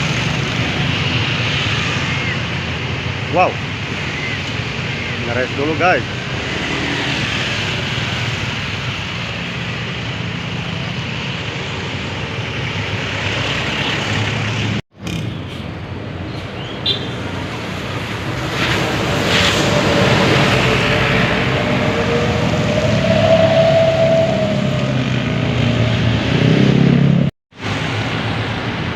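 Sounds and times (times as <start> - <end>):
vehicle engine rumble: 0.0 - 28.9.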